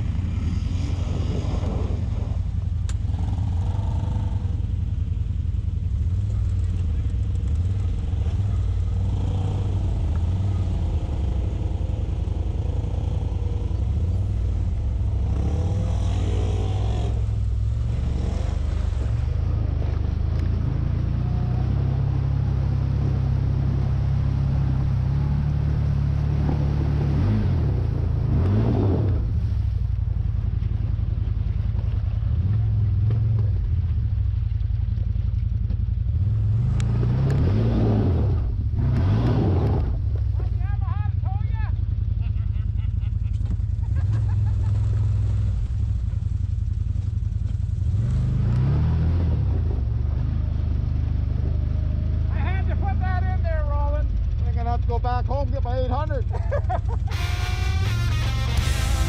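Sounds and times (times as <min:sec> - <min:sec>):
side-by-side vehicle engine driving: 0:00.0 - 0:59.0.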